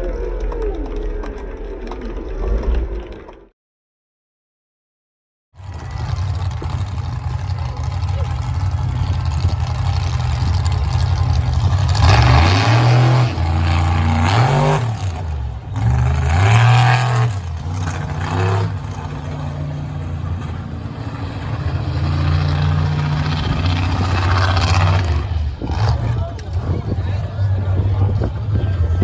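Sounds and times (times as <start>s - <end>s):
monster truck engine revving: 5.6s - 29.0s.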